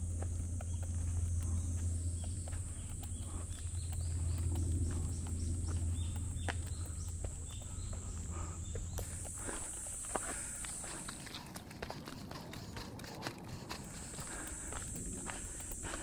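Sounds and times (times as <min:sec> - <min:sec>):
footsteps on dirt trail: 0:00.0 - 0:16.0.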